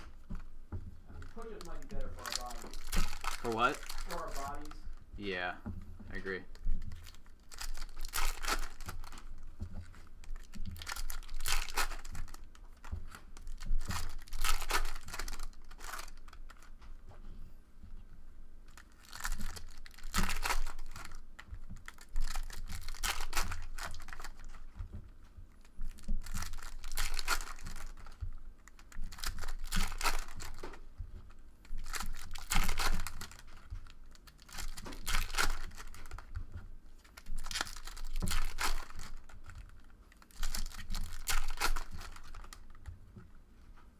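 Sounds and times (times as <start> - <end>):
foil wrappers tearing and crinkling: 1.2 - 5.4, 6.1 - 16.7, 18.7 - 24.8, 25.6 - 30.9, 31.6 - 42.9.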